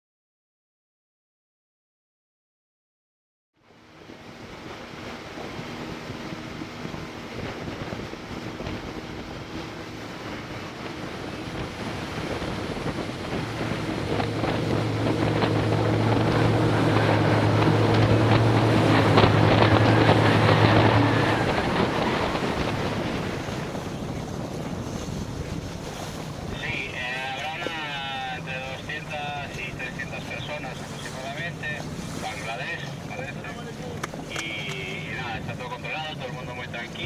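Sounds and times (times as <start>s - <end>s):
boat engine drone: 3.6s - 37.0s
rushing water and spray: 3.6s - 37.0s
wind buffeting microphone: 3.8s - 35.7s.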